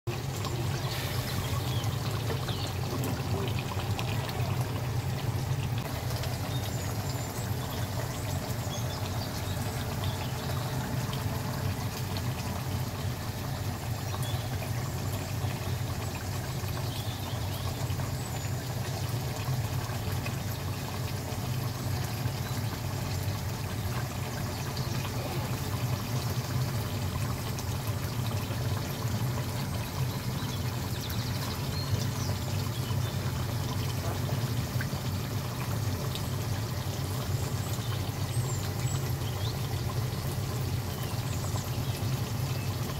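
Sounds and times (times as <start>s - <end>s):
curry bubbling in a pot: 0.1s - 42.9s.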